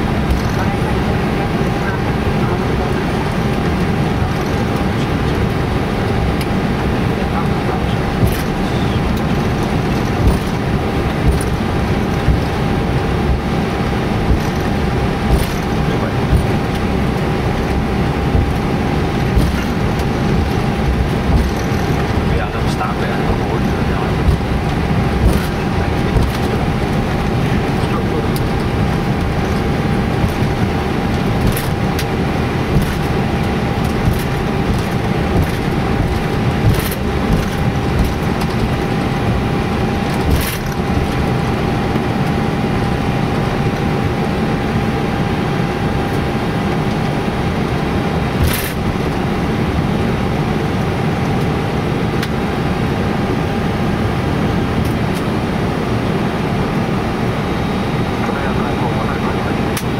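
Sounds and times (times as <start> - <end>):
aircraft engines idling: 0.0 - 59.9
faint constant hum: 0.0 - 59.9.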